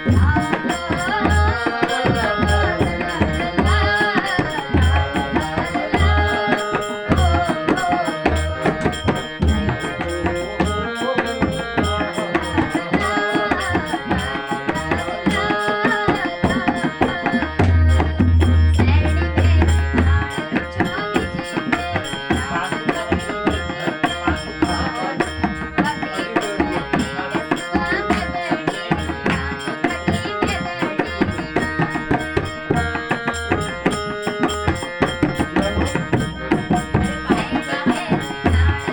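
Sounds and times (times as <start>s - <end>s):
hand drum beat: 0.0s - 23.6s, 24.3s - 38.9s.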